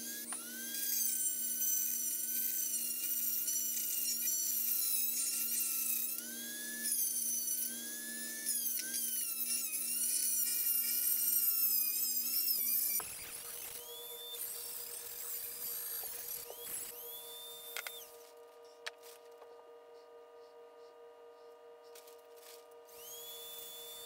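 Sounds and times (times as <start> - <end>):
rotary tool whining on metal: 0.0 - 20.1, 21.4 - 24.0.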